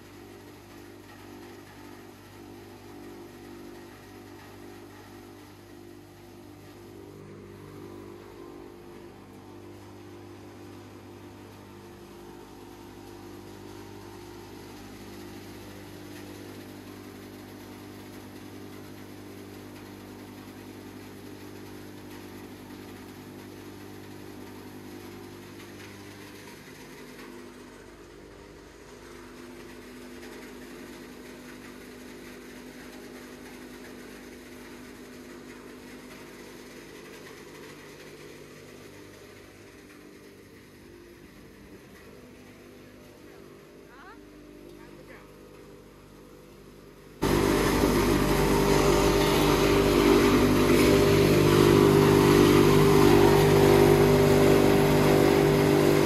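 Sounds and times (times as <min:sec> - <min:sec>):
wood crusher machine hum: 0:00.0 - 0:56.0.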